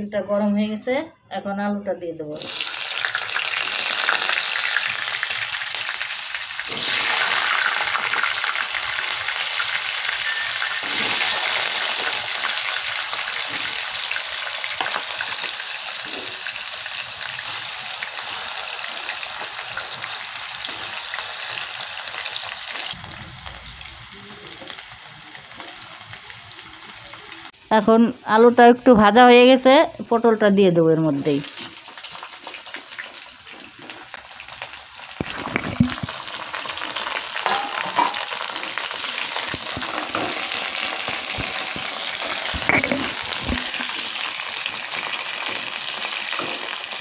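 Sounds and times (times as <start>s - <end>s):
potatoes sizzling in hot oil: 2.4s - 28.7s, 31.2s - 47.0s.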